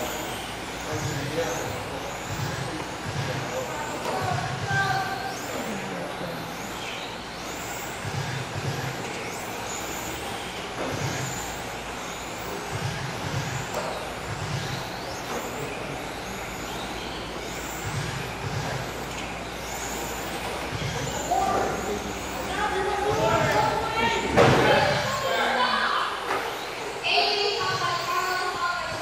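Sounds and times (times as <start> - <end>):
rc car electric motors whining: 0.0 - 29.0.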